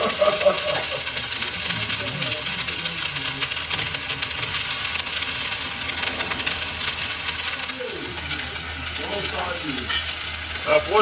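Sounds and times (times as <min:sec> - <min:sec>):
constant low hum: 0:00.0 - 0:11.0
dense crackling hiss: 0:00.0 - 0:11.0.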